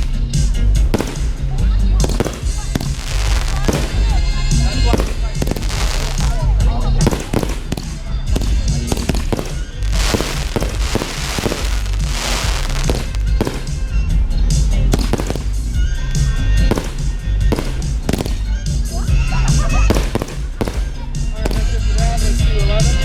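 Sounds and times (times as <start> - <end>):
fireworks crackling hiss: 0.0 - 22.3
fireworks bangs: 0.0 - 22.4.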